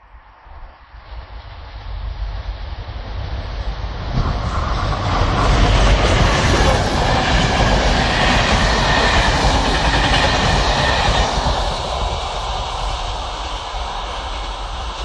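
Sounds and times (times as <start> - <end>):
train wheels running on rails: 1.0 - 15.0.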